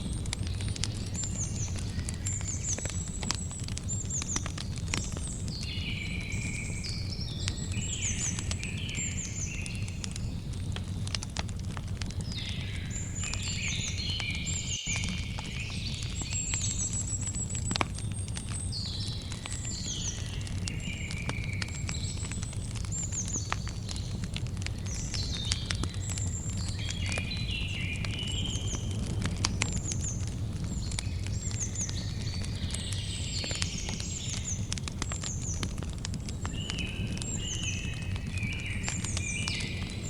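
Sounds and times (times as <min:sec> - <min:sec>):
birds chirping: 0:00.0 - 0:40.0
campfire crackling and popping: 0:00.0 - 0:40.0.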